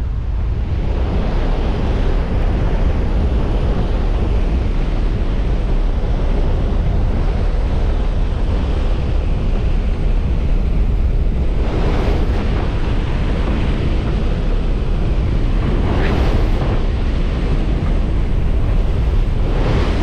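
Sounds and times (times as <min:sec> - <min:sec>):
plane engine drone: 0:00.0 - 0:20.0
rushing wind: 0:00.0 - 0:20.0
wind buffeting microphone: 0:00.0 - 0:20.0.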